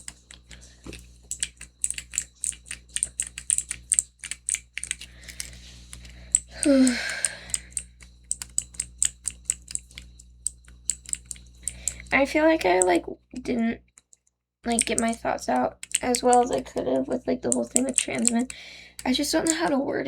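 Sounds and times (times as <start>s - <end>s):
fidget toy clicking rapidly: 0.0s - 13.0s, 13.8s - 20.0s.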